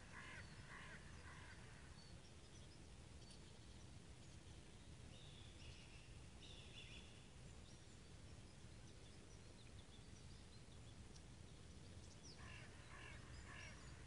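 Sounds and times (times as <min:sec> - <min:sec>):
soft bird chirps: 0:00.0 - 0:14.0.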